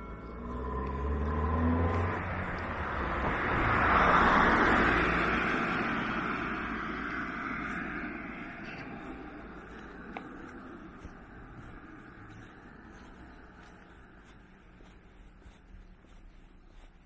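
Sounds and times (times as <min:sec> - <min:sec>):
car passing by: 0:00.0 - 0:16.9.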